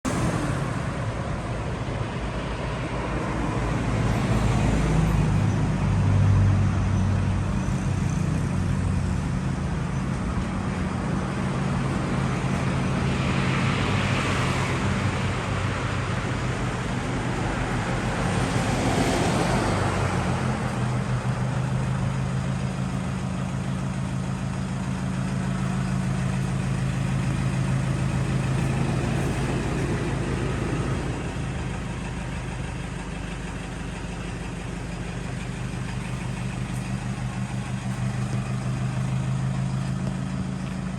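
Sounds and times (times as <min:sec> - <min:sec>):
passing road traffic: 0:00.0 - 0:40.9
vehicle engine running: 0:00.0 - 0:40.9.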